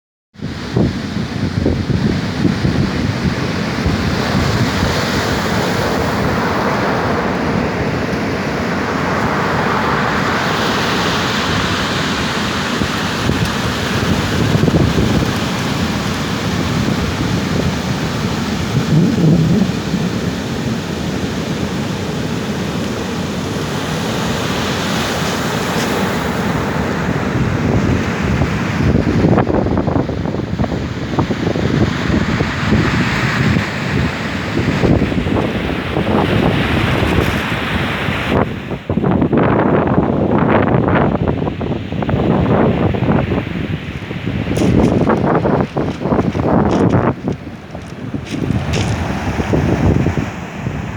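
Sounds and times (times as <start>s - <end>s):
ocean waves breaking on shore: 0.4s - 50.9s
wind rumbling on microphone: 0.4s - 50.9s.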